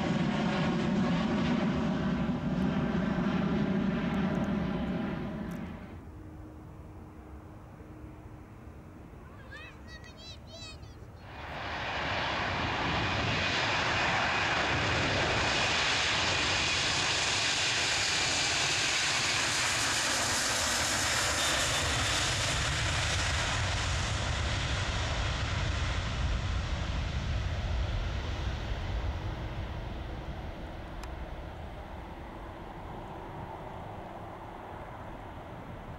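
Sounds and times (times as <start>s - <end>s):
jet engines at takeoff: 0.0s - 35.9s.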